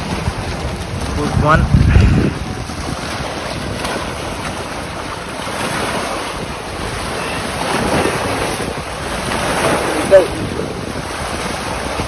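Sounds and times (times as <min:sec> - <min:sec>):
small waves lapping on rocks: 0:00.0 - 0:12.0
wind buffeting microphone: 0:00.0 - 0:12.0.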